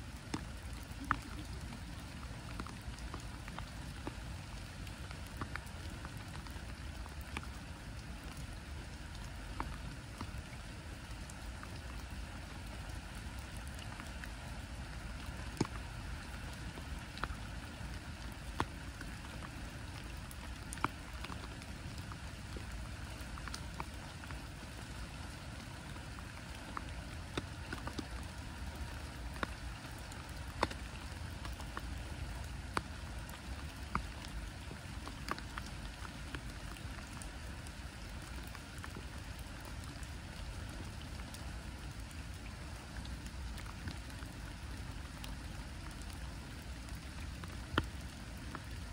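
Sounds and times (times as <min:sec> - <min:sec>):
rain on water: 0:00.0 - 0:48.9.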